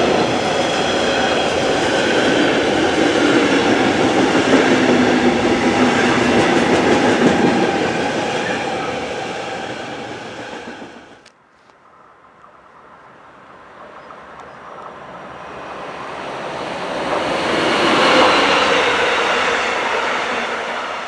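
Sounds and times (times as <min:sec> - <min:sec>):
train wheels rushing on rails: 0:00.0 - 0:11.2, 0:13.8 - 0:21.0.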